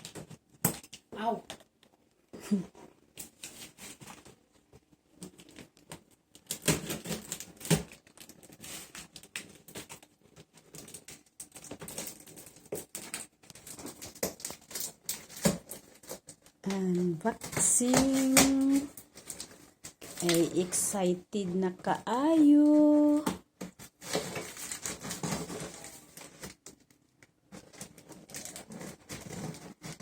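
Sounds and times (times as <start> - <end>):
box and packaging being opened: 0.0 - 30.0.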